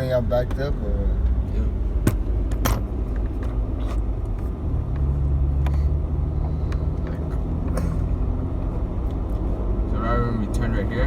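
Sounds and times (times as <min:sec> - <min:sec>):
road rumble: 0:00.0 - 0:11.0
vehicle engine from inside: 0:00.0 - 0:11.0.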